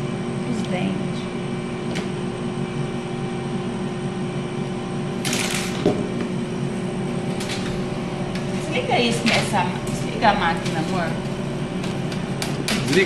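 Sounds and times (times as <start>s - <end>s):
laser engraver humming: 0.0s - 13.0s.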